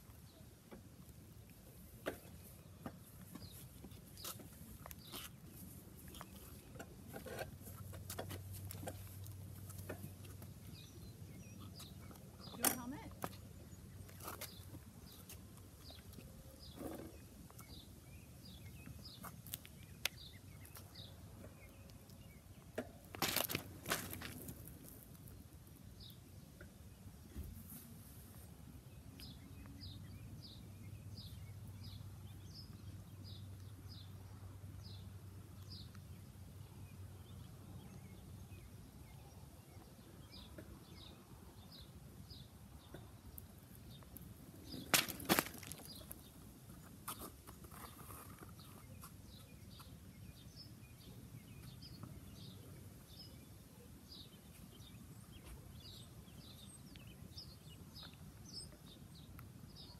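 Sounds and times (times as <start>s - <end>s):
bird chirping: 1.4s - 7.9s, 8.6s - 27.4s, 28.8s - 59.9s.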